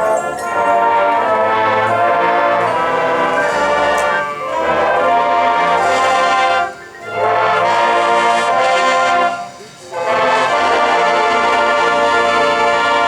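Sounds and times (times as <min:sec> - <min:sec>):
brass band sustained chords: 0:00.0 - 0:13.0.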